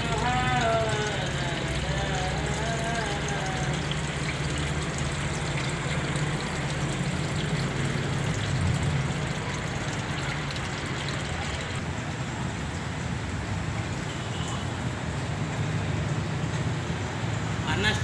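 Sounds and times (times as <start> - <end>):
water splashing into pond: 0.0 - 17.6.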